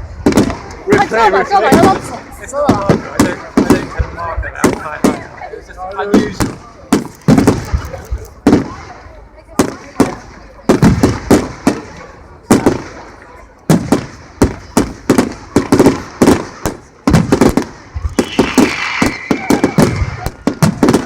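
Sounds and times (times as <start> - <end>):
fireworks bursting with bangs: 0.0 - 21.0.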